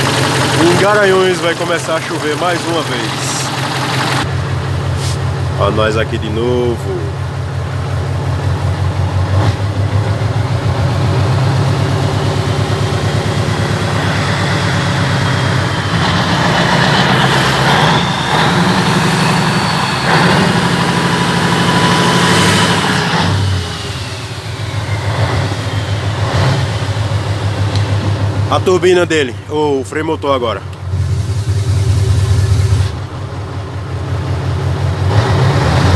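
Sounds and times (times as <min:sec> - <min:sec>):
diesel engine revving: 0:00.0 - 0:35.9.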